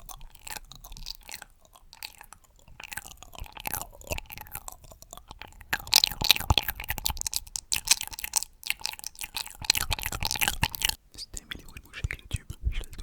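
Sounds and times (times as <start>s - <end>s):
wet mouth clicks and smacks: 0.0s - 13.0s.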